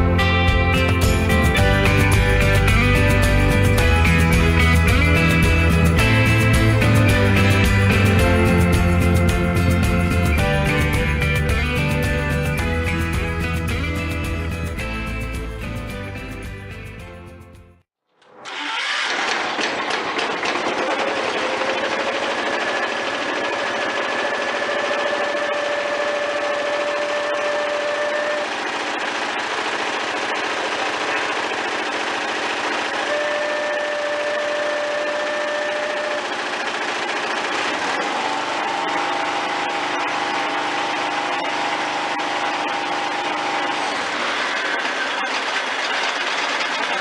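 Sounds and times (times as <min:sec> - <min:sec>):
garden tractor engine running: 0:00.0 - 0:17.4, 0:18.3 - 0:47.0
mower deck whine: 0:00.0 - 0:17.6, 0:18.2 - 0:47.0.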